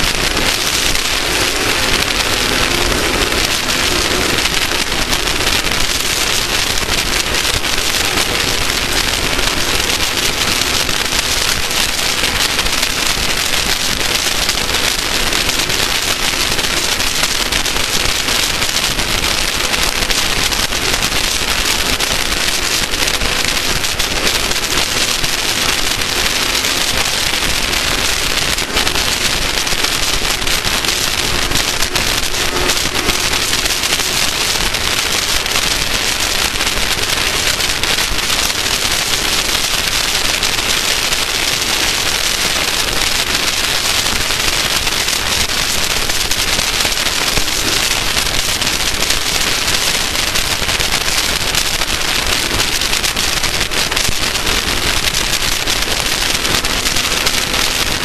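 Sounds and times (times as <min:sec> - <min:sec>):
fine crackling: 0:00.0 - 0:58.0.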